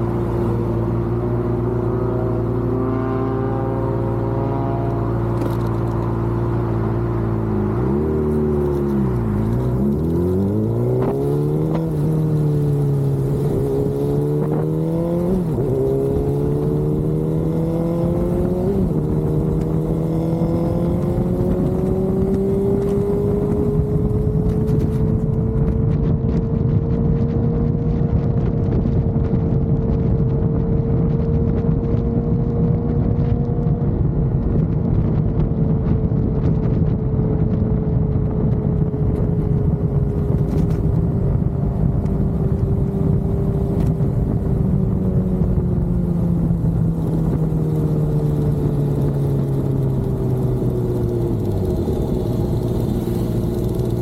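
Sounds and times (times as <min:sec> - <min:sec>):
motorcycle engine shifting gears: 0:00.0 - 0:54.0
wind noise rushing: 0:06.1 - 0:54.0.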